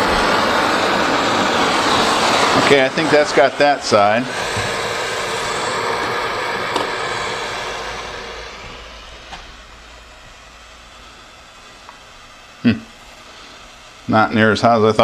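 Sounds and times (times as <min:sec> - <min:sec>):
low background hum: 0:00.0 - 0:15.0
soldering torch flame hissing: 0:00.0 - 0:15.0.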